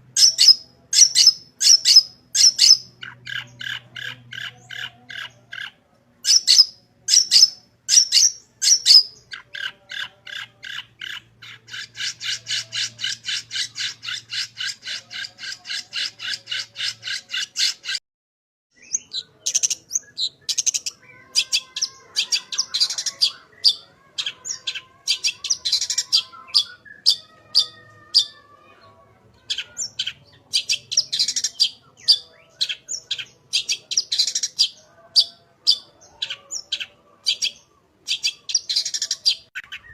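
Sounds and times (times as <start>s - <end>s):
bird chirps and mimicked calls: 0.1s - 18.0s, 18.8s - 39.9s
bird squawking song: 0.1s - 18.0s, 18.8s - 39.9s.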